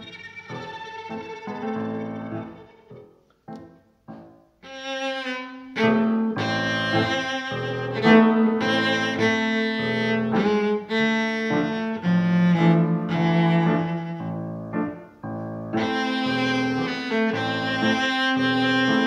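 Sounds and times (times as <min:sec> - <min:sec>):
instrumental music with held notes: 0:00.0 - 0:19.0.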